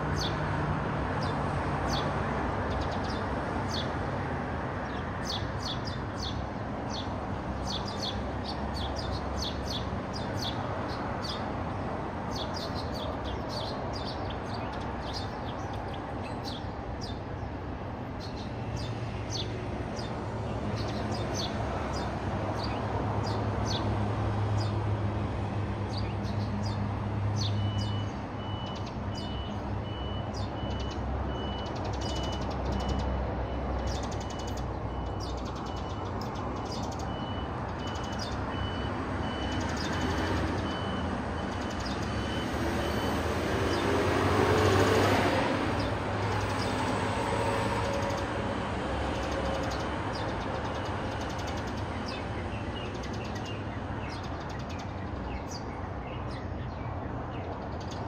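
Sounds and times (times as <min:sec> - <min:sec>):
sparrows chirping: 0:00.1 - 0:00.4, 0:01.2 - 0:04.0, 0:04.8 - 0:24.8, 0:25.8 - 0:42.2, 0:49.2 - 0:58.0.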